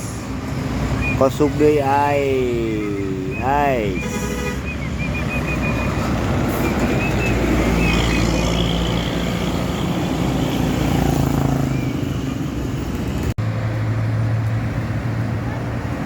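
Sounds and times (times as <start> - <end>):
heavy vehicles driving past: 0.0 - 16.0.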